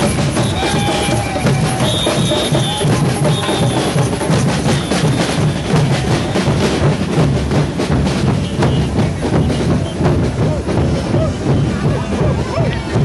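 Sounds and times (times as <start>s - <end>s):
drum band playing: 0.0s - 13.0s.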